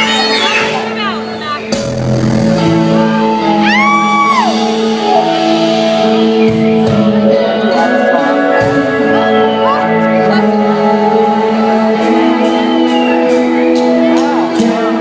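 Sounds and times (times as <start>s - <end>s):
synthesizer chords: 0.0s - 15.0s.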